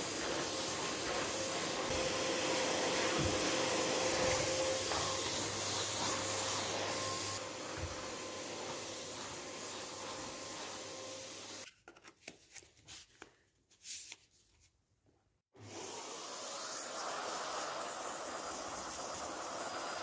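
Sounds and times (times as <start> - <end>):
vacuum cleaner running: 0.0 - 11.6, 15.6 - 20.0.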